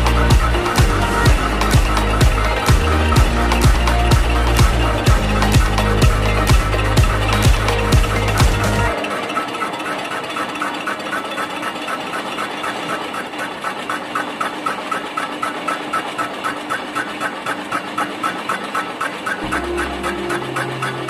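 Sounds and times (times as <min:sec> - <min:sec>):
lathe running: 0:00.0 - 0:21.0
regular ticking: 0:00.0 - 0:21.0.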